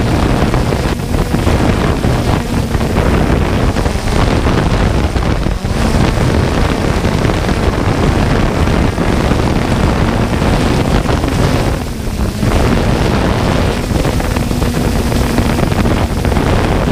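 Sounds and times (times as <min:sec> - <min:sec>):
drone rotor hum: 0:00.0 - 0:16.9
wind buffeting microphone: 0:00.0 - 0:16.9.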